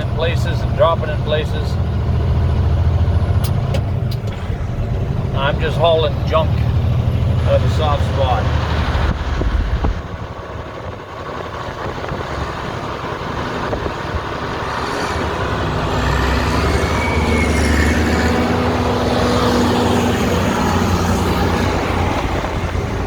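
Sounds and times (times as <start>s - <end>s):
truck diesel engine under load: 0.0s - 23.0s.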